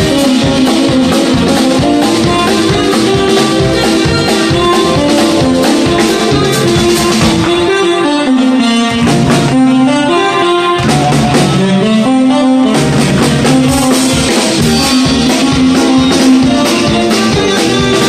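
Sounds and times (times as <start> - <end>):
rock and roll band playing: 0.0 - 18.0.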